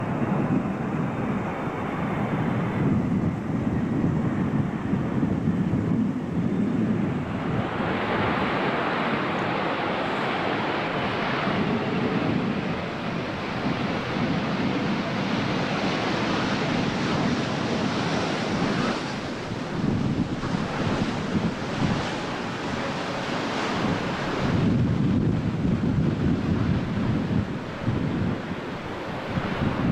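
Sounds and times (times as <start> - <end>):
jet engines roaring: 0.0 - 29.9
wind buffeting microphone: 0.0 - 29.9.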